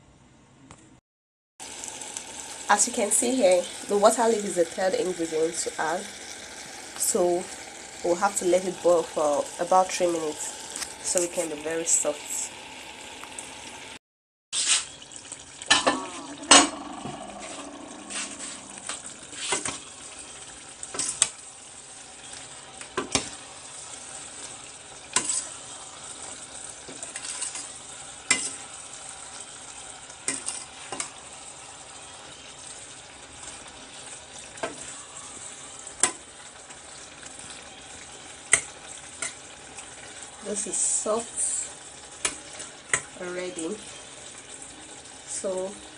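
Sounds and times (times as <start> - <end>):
pot bubbling: 1.6 - 14.0, 14.6 - 45.4.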